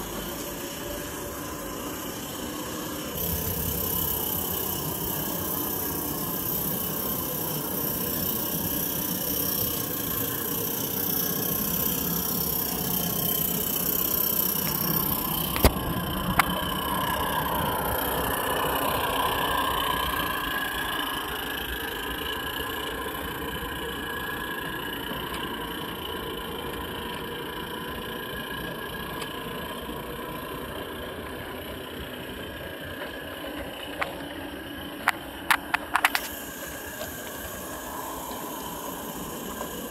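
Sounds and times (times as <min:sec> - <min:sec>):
model train rolling on track: 0:00.0 - 0:39.9.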